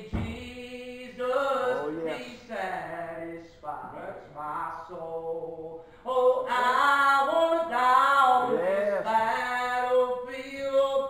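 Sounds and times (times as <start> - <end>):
man singing gospel: 0.0 - 11.0.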